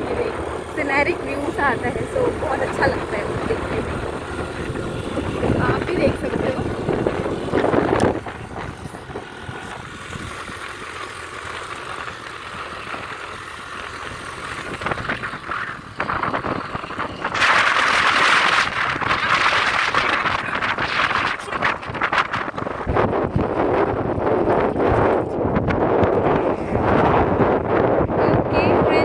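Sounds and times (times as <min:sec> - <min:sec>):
loud rush of noise: 0:00.0 - 0:24.8
vehicle road noise: 0:00.0 - 0:29.0
wind on microphone: 0:00.0 - 0:29.0.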